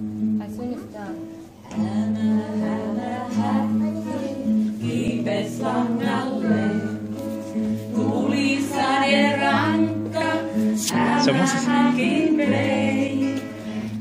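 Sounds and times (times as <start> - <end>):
acoustic guitar: 0.0 - 14.0
group singing children's song: 1.6 - 14.0.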